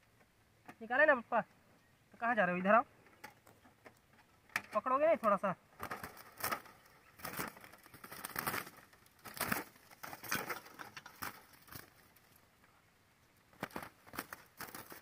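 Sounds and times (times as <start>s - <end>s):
bamboo cage rustling and crackling: 0.0s - 15.0s.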